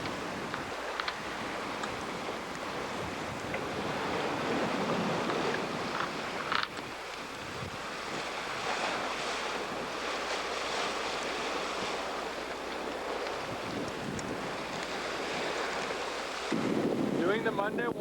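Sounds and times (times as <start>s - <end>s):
ocean waves rushing: 0.0s - 18.0s
wind buffeting microphone: 0.0s - 18.0s.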